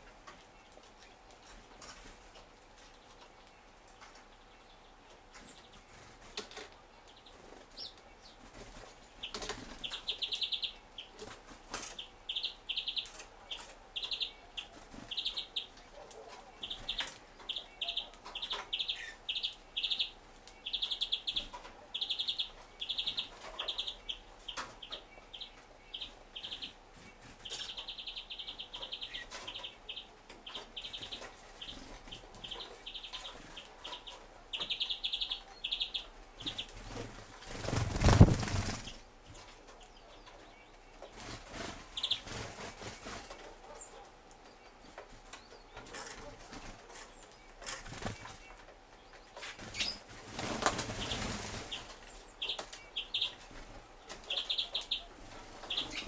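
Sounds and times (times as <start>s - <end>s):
songbirds rattling trills: 0.0s - 56.0s.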